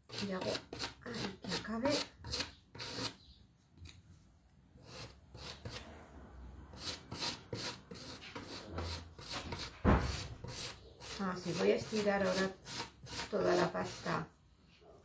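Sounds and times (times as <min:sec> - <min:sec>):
spatula scraping paste on plastic: 0:00.0 - 0:04.0, 0:04.8 - 0:06.1, 0:06.7 - 0:14.4.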